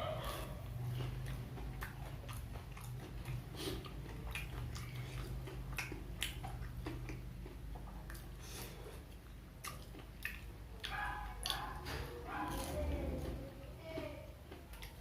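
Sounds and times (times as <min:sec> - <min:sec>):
person chewing: 0:00.0 - 0:13.0, 0:14.4 - 0:15.0
faint low hum: 0:00.0 - 0:15.0.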